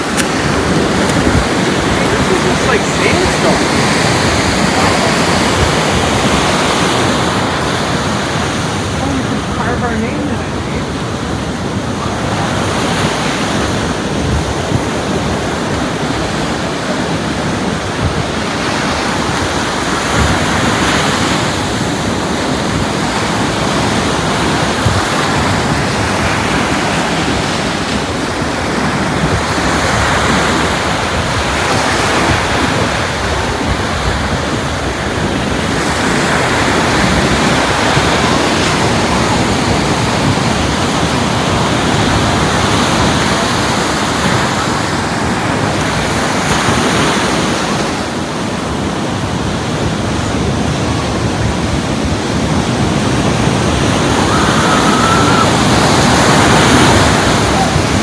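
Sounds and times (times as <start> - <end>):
ocean surf on a sandy beach: 0.0 - 58.0.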